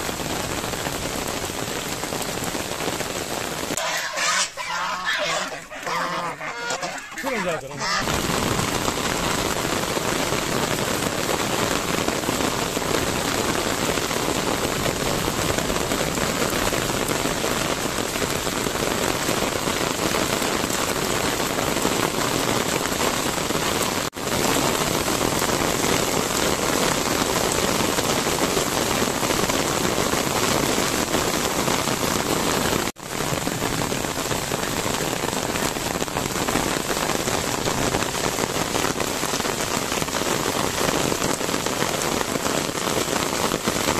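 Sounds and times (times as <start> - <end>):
rain on paving and plants: 0.0 - 43.9.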